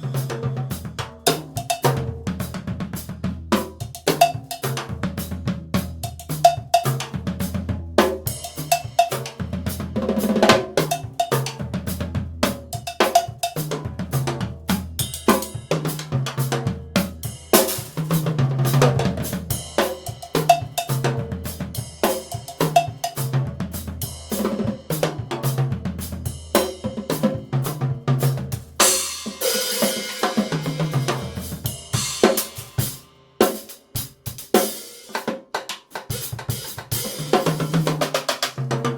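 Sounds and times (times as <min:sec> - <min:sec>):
drum kit grooves and fills: 0:00.0 - 0:38.9.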